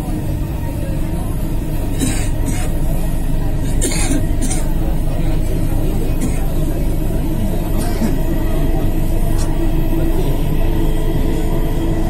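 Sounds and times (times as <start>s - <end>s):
droning tone: 0.0s - 12.0s
train rumbling: 0.0s - 12.0s.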